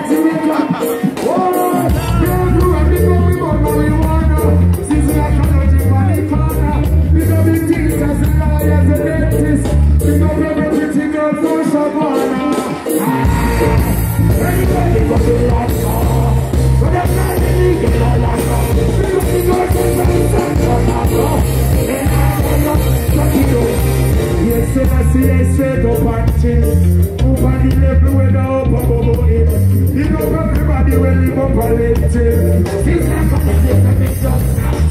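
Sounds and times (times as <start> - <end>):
live reggae band over a pa: 0.0 - 34.9.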